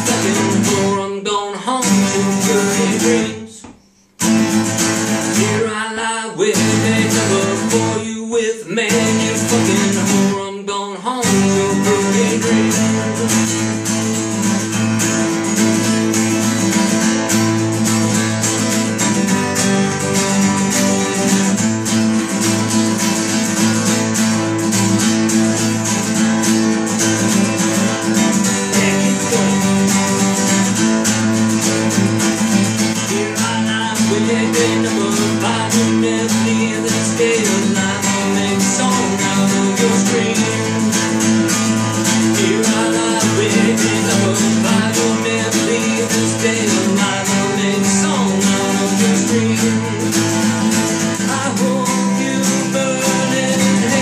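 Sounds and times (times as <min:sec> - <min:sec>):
acoustic guitars strummed: 0:00.0 - 0:54.0.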